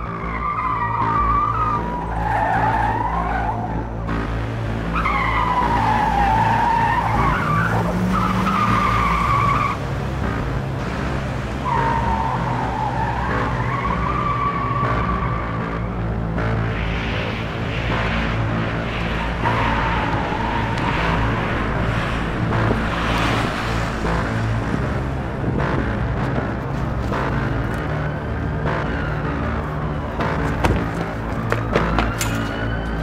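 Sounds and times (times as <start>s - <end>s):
car tyres squealing on concrete: 0.0s - 4.2s, 4.8s - 33.0s.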